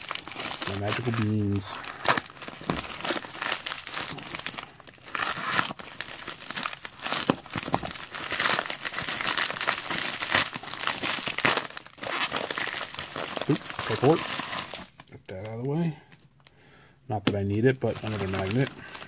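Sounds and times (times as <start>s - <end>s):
plastic bag crinkling: 0.0s - 15.2s, 17.8s - 19.0s.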